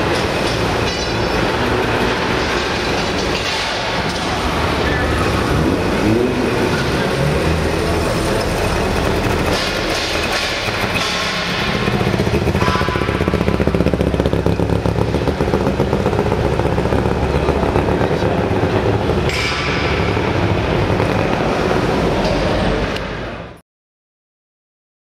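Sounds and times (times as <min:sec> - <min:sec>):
two-stroke engine running: 0:00.0 - 0:23.4.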